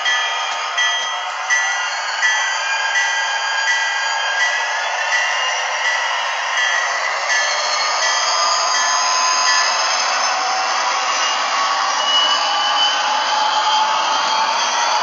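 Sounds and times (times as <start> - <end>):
model locomotive diesel engine sound: 0.0 - 15.0.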